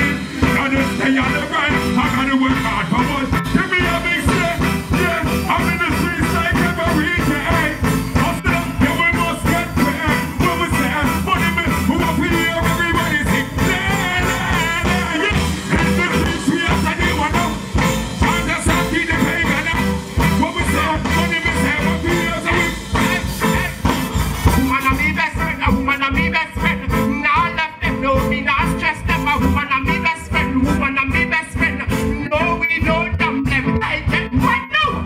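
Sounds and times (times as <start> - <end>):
man singing into a microphone: 0.0 - 35.0
reggae backing music with bass beat: 0.0 - 35.0.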